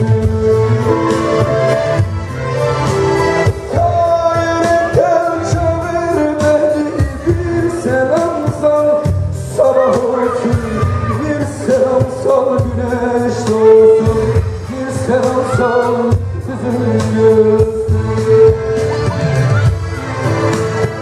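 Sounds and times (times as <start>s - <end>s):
live band music: 0.0s - 21.0s
person singing: 0.0s - 21.0s.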